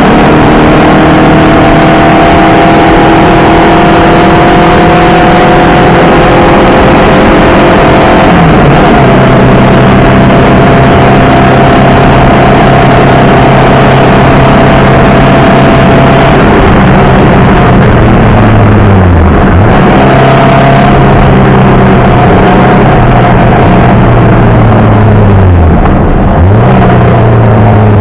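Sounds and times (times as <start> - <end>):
car engine running hard: 0.0 - 28.0.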